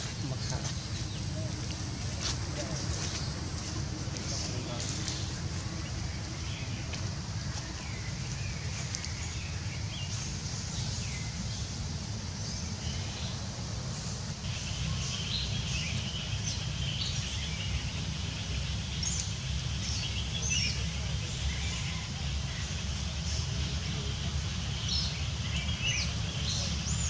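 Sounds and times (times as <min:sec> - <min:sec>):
steady low rumble: 0:00.0 - 0:26.8
birds chirping: 0:00.0 - 0:27.0.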